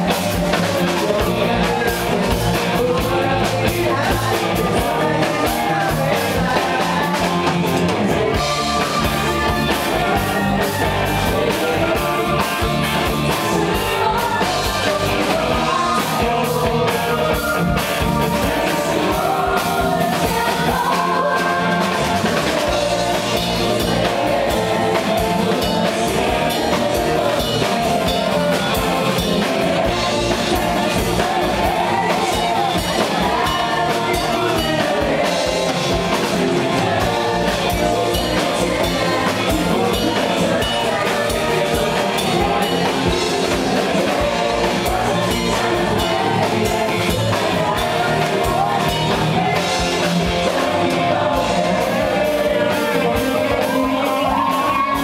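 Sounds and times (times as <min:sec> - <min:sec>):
drum kit: 0:00.0 - 0:55.0
electric guitars: 0:00.0 - 0:55.0
person singing: 0:00.0 - 0:55.0.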